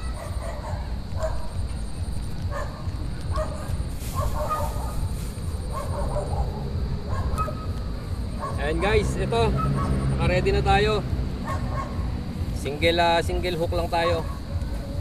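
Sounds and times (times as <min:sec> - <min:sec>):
steady low rumble: 0:00.9 - 0:15.0.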